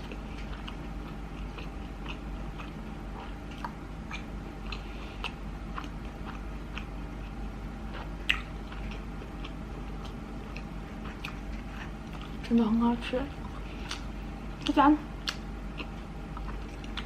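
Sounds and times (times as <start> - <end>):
chewing food: 0.0 - 12.7, 13.3 - 17.0.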